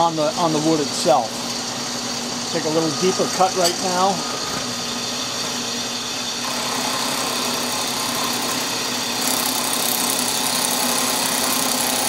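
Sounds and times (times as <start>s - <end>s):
drill press cutting wood: 0.0s - 12.0s.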